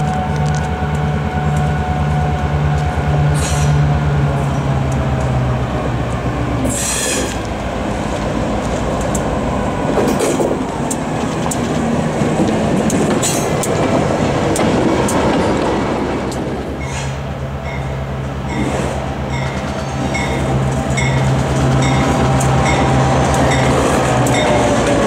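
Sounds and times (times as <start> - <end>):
diesel locomotive engine drone: 0.0 - 25.0
train wheels on rails: 0.0 - 25.0.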